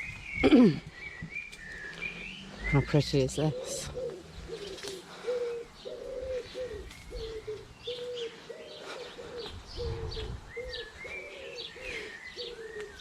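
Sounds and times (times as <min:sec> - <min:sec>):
doves cooing: 0:00.0 - 0:13.0
small birds chirping: 0:00.0 - 0:13.0.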